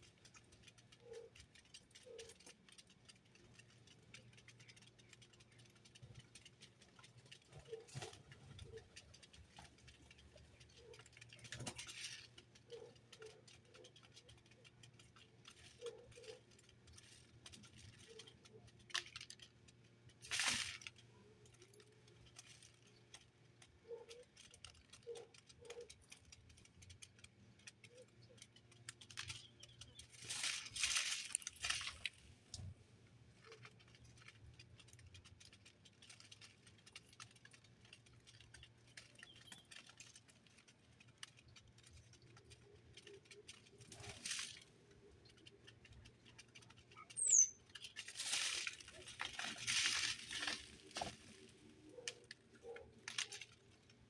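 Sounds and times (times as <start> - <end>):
birds pecking at a feeder: 0.0 - 54.0.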